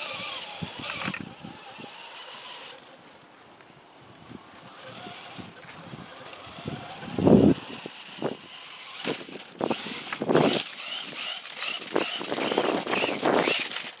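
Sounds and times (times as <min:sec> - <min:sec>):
electric motor whining: 0:00.0 - 0:03.2, 0:03.8 - 0:14.0
toy car wheels rolling over grass: 0:00.0 - 0:14.0.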